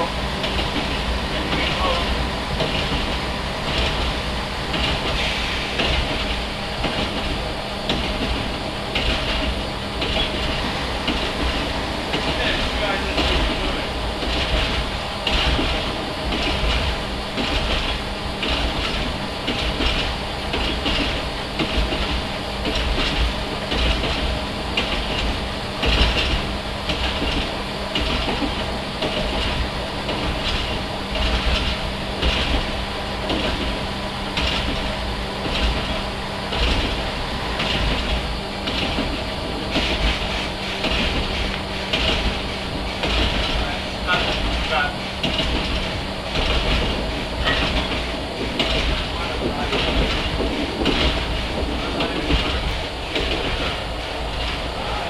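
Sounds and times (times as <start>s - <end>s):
diesel engine drone: 0.0s - 55.0s
wheels clacking over rail joints: 0.0s - 55.0s.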